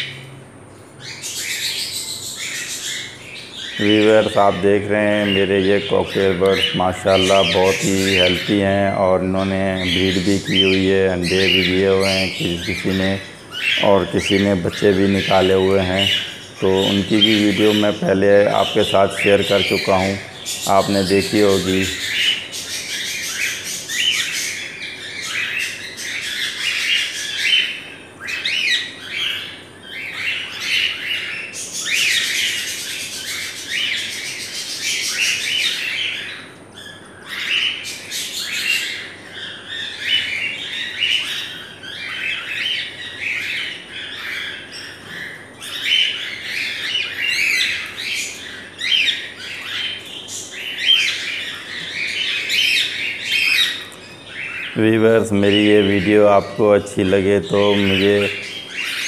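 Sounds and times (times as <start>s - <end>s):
cockatiels chirping and calling: 0.0s - 0.3s, 1.0s - 59.0s.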